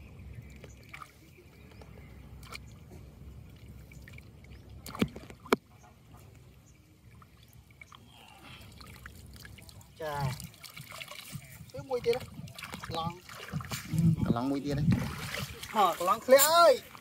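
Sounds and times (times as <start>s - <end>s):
shallow water splashing: 0.4s - 17.0s.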